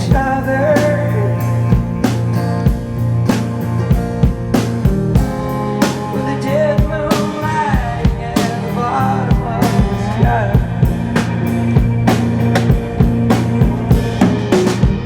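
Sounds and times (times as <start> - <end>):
drum kit beat: 0.0 - 15.0
guitar: 0.0 - 15.0.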